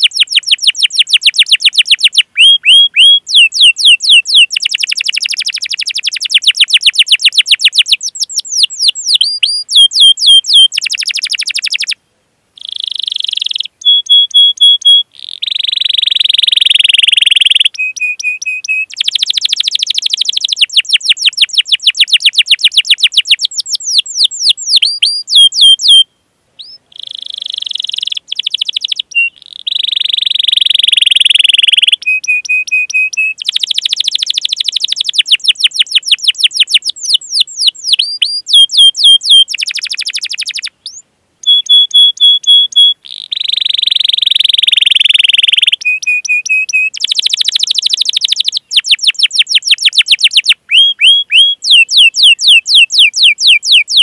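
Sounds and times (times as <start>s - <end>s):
canary singing: 0.0s - 12.0s, 12.6s - 54.0s.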